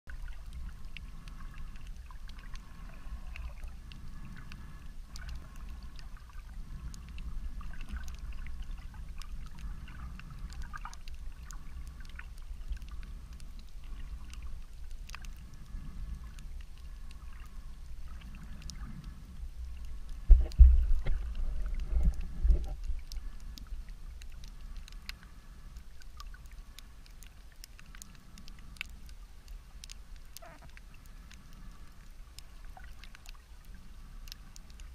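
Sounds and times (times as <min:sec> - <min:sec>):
faint clicks: 0:00.1 - 0:34.9
underwater rumble of moving water: 0:00.1 - 0:34.9.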